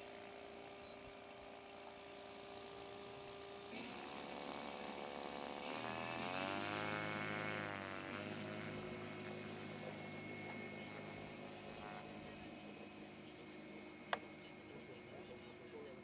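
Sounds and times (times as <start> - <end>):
model airplane engine revving: 0.0 - 16.0.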